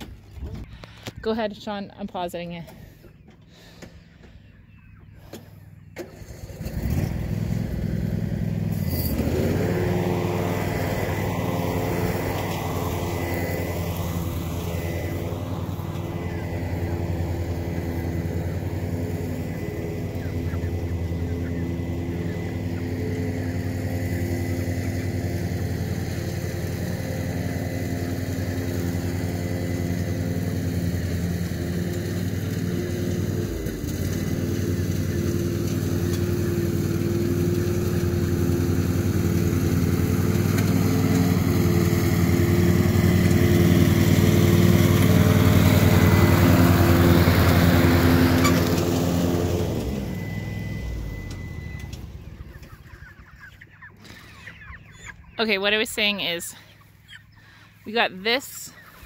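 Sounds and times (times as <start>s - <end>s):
small engine running: 5.1s - 59.0s.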